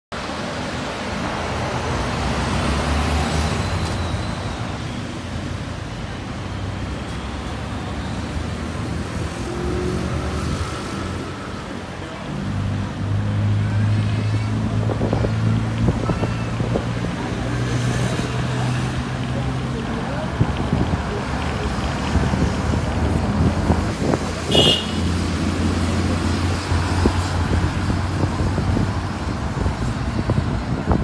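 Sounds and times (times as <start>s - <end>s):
cars passing: 0.2s - 31.0s.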